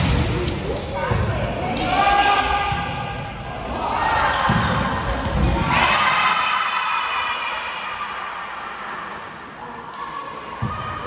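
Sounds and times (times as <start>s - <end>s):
voices shouting in echoing hall: 0.2s - 11.0s.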